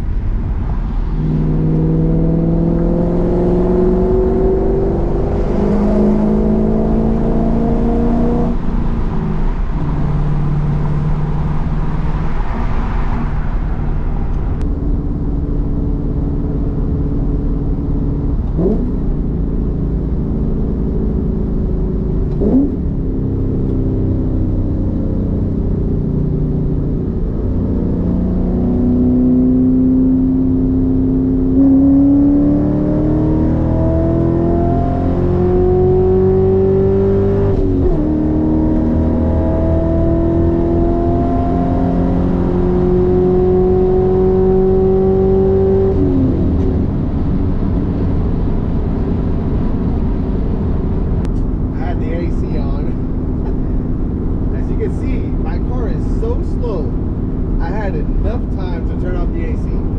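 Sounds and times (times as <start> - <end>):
car engine revving from inside: 1.1 - 9.2, 18.3 - 19.4, 20.0 - 59.9.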